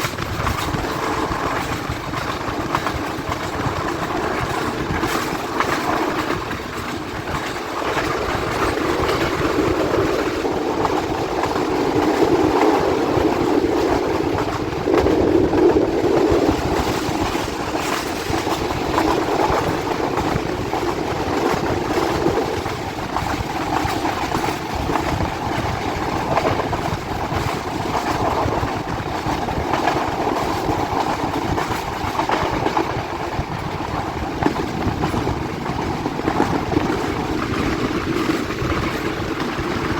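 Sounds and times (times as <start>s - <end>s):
faint clicks over rail joints: 0.0s - 39.9s
train wheels rumbling: 0.0s - 39.9s.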